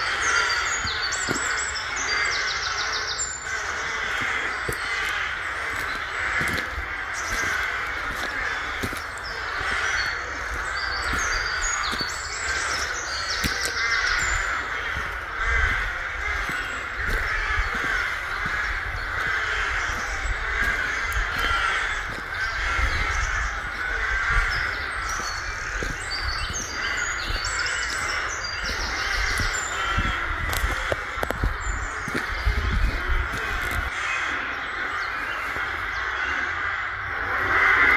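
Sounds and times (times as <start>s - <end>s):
low wind rumble on microphone: 0.0s - 33.9s
crows cawing: 0.0s - 37.9s
songbird notes: 0.0s - 37.9s.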